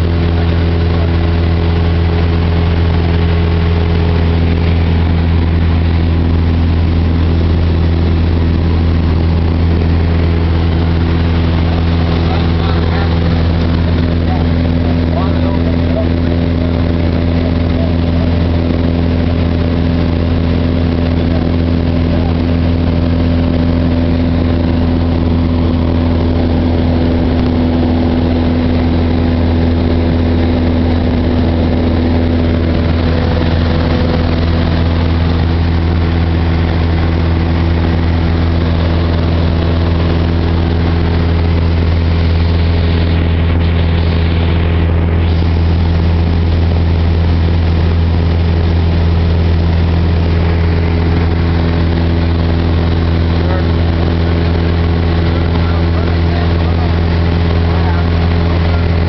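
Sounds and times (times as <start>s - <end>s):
airplane engine and propeller drone: 0.0s - 59.0s.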